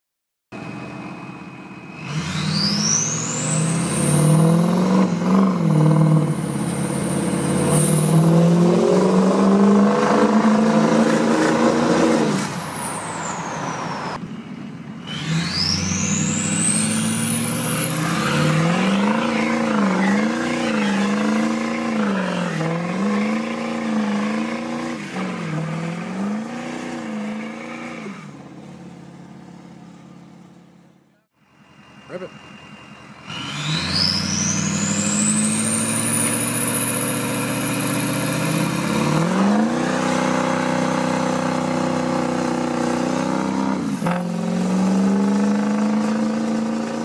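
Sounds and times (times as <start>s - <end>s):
diesel engine revving: 0.6s - 47.0s.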